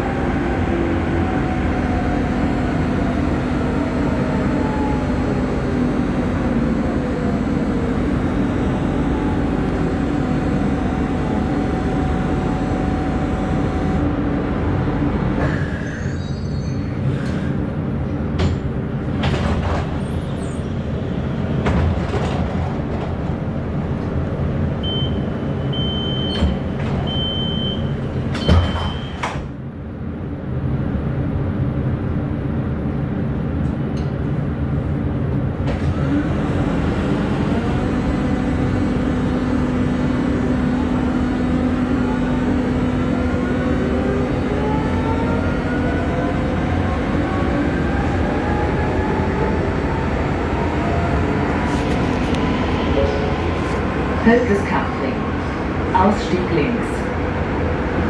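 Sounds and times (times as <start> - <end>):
light rail car running: 0.0 - 58.0.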